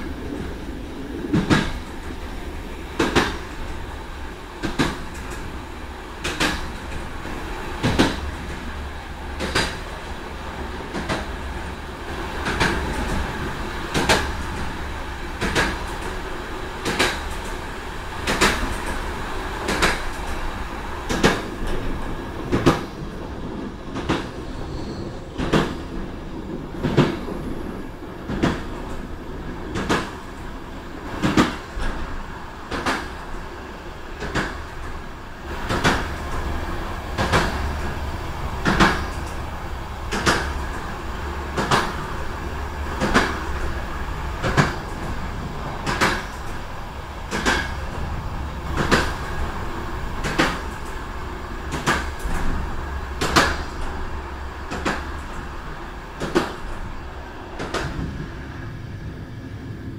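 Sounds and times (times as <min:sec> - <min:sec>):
train rumble: 0:00.0 - 0:59.9
train wheels clacking on rail joints: 0:00.0 - 0:59.9.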